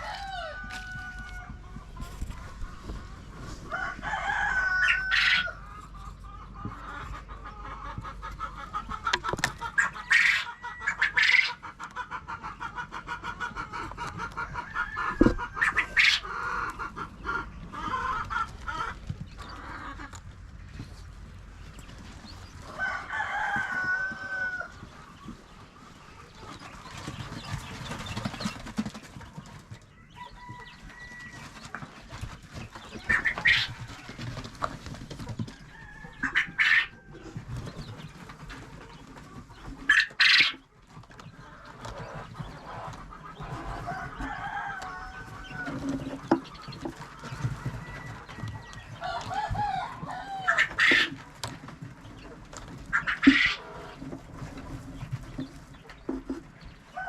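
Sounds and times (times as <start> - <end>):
chickens clucking: 0.0 - 57.0
loud drawn-out chicken calls: 0.0 - 57.0.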